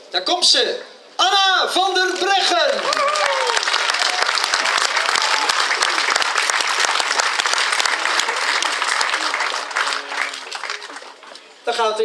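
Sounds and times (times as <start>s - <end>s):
crowd clapping: 2.0s - 11.6s.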